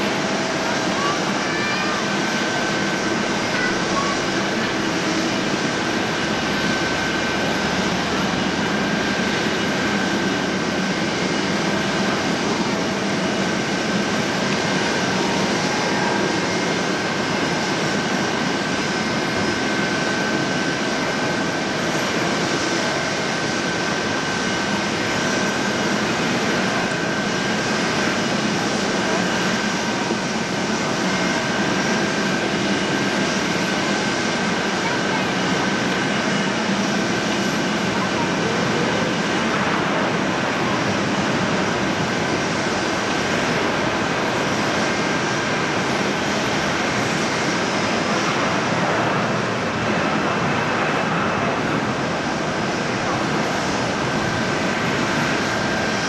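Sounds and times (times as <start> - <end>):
high jet whine: 0.0 - 56.0
jet airliner rush: 0.0 - 56.0.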